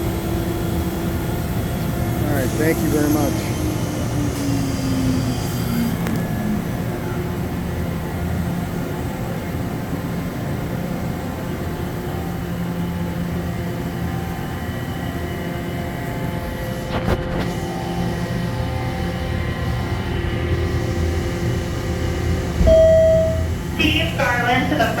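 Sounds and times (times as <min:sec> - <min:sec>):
machinery drone with hum tones: 0:00.0 - 0:25.0.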